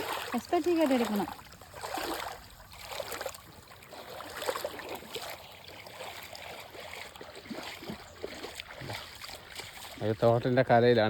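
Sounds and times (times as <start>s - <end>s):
footsteps wading through stream: 0.0s - 11.0s
water sloshing and splashing: 0.0s - 11.0s.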